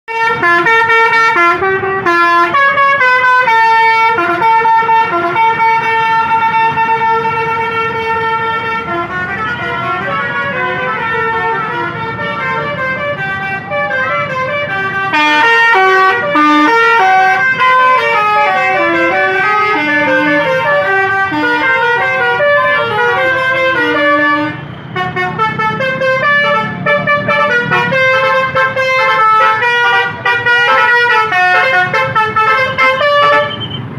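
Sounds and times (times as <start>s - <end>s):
musical air horn playing a tune: 0.1s - 33.6s.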